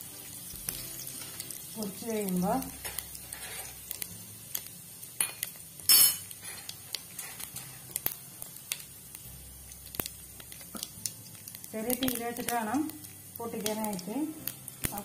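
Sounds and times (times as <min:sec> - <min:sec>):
seeds crackling in hot oil: 0:00.0 - 0:15.0.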